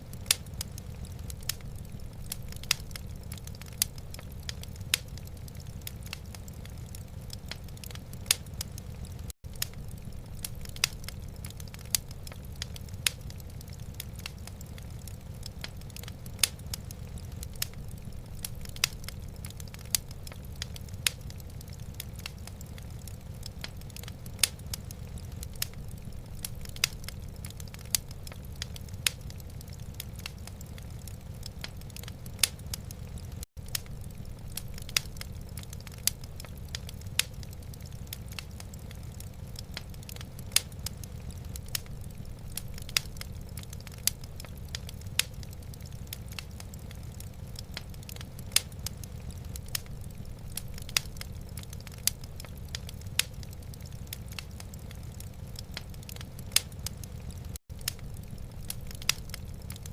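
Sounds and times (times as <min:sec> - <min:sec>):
logs crackling and popping: 0:00.0 - 0:59.9
low fire rumble: 0:00.0 - 0:59.9.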